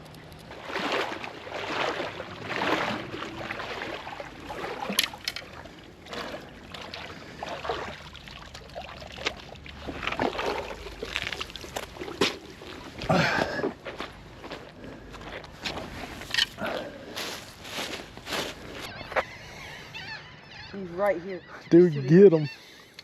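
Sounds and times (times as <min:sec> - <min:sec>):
water lapping and sloshing: 0:00.0 - 0:22.9.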